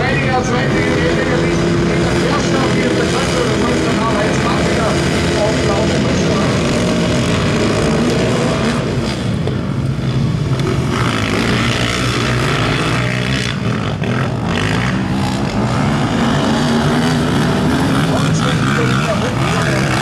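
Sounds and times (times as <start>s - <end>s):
racing quad engines: 0.0s - 20.0s.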